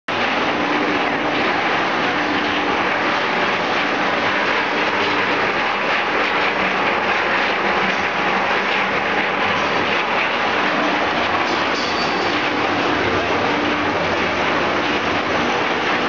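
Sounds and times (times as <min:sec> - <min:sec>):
rotating drum turning: 0:00.1 - 0:16.0.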